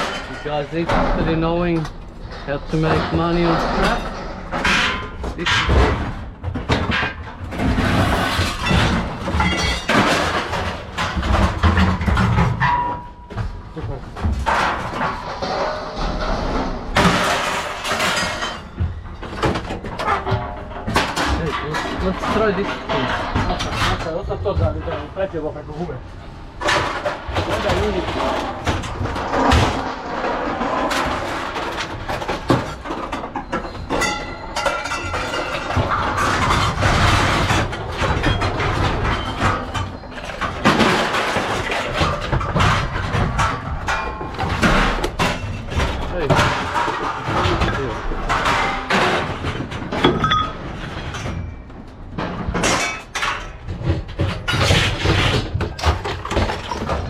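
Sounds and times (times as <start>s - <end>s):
scrap metal clattering and scraping: 0.0s - 57.0s.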